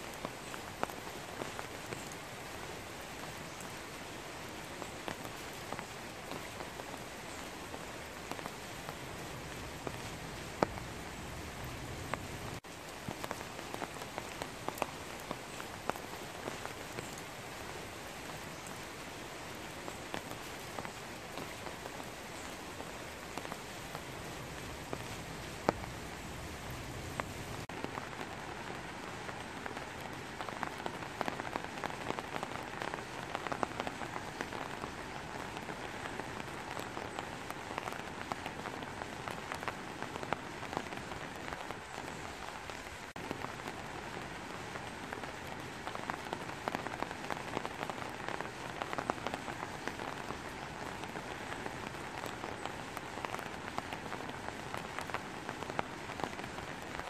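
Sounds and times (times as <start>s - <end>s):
steady rain on foliage: 0.0s - 57.0s.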